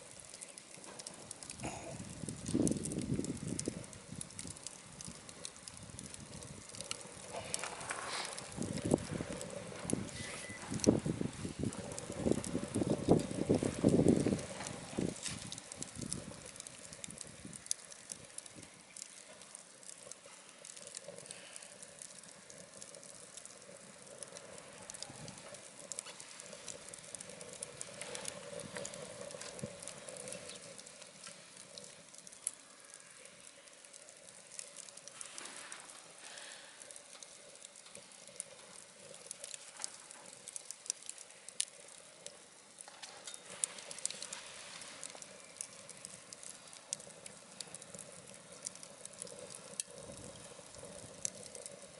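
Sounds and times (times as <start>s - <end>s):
faint hiss of burning wood: 0.0s - 51.9s
wood fire crackling in stove: 0.0s - 51.9s.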